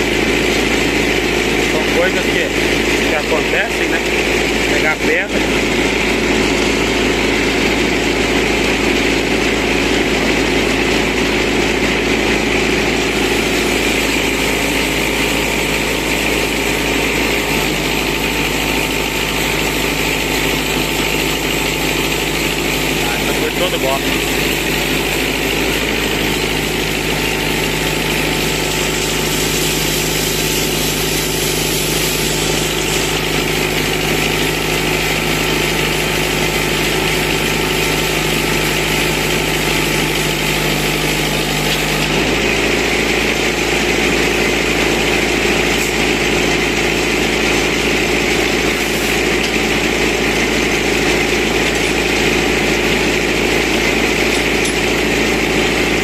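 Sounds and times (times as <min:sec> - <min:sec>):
band saw cutting wood: 0:00.0 - 0:56.0
tractor engine running: 0:00.0 - 0:56.0.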